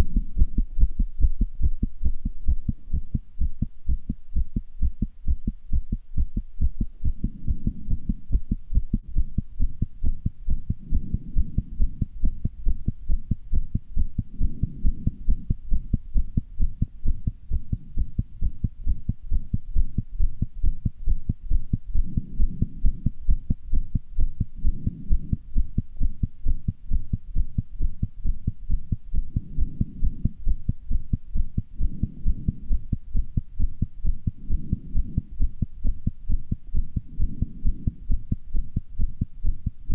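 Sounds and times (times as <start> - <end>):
fast heartbeat: 0.0 - 39.9.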